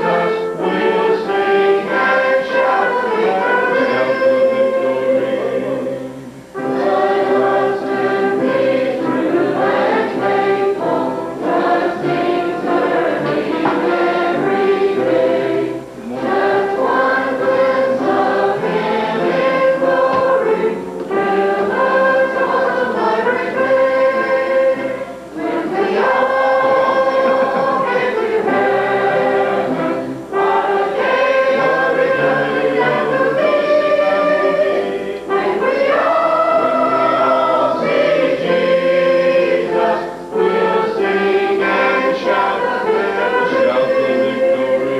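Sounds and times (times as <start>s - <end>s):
congregation and choir singing hymn: 0.0s - 44.9s.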